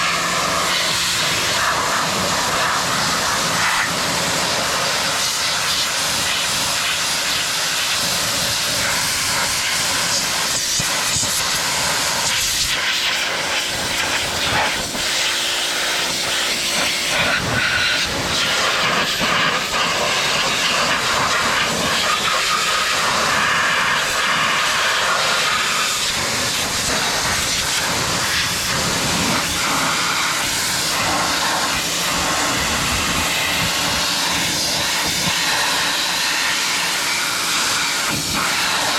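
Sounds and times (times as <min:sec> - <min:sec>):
pressure washer spraying water: 0:00.0 - 0:38.9.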